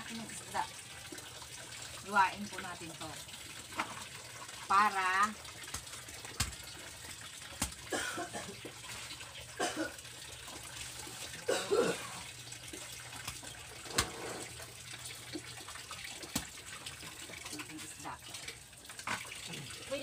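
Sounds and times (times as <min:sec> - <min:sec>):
running water trickling: 0:00.0 - 0:20.0.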